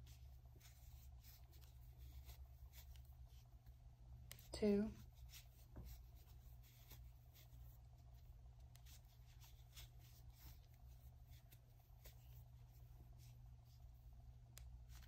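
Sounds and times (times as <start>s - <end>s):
cord rustling: 0.0s - 15.0s
low steady hum: 0.0s - 15.0s.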